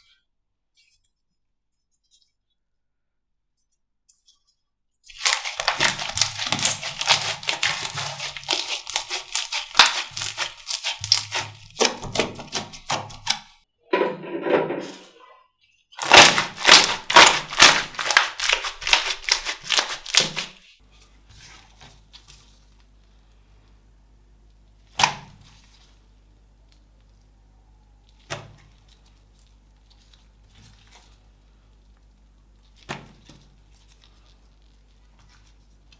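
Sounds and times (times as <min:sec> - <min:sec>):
slime squelch: 0:05.1 - 0:13.6, 0:15.1 - 0:35.9.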